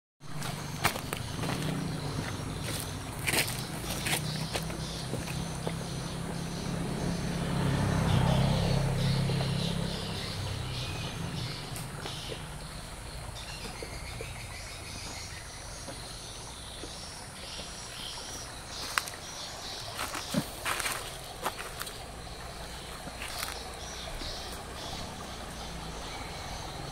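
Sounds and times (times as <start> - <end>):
birds calling: 0.3 - 26.9
insects buzzing: 0.3 - 26.9
low motor drone: 0.4 - 26.9.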